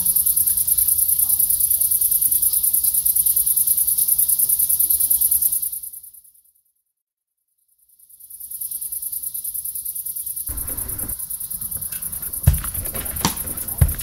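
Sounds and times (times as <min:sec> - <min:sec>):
crickets trilling: 0:00.0 - 0:06.4, 0:07.8 - 0:14.0.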